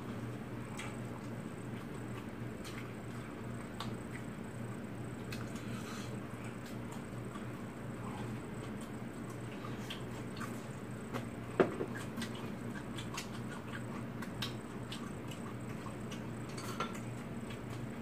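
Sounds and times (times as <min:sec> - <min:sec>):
steady low hum: 0:00.0 - 0:18.0
chewing: 0:00.6 - 0:04.4, 0:05.1 - 0:18.0.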